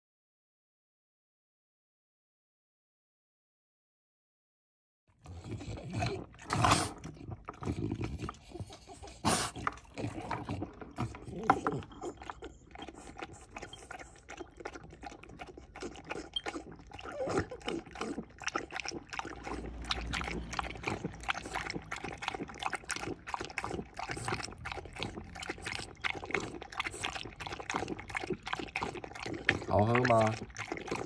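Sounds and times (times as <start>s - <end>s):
dog lapping water: 5.2s - 31.0s.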